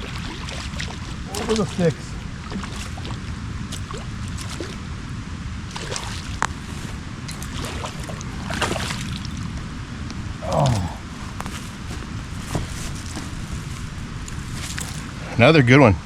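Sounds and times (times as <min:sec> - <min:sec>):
creek water rushing: 0:00.0 - 0:15.4
wind buffeting microphone: 0:00.0 - 0:16.0.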